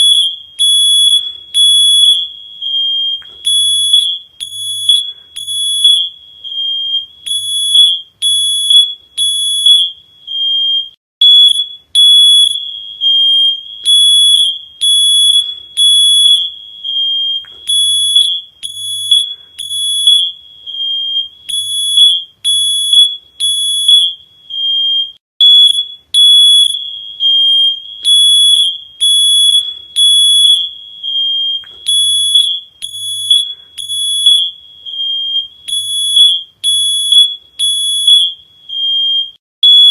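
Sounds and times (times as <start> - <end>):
smoke alarm beeping: 0.0 - 39.9.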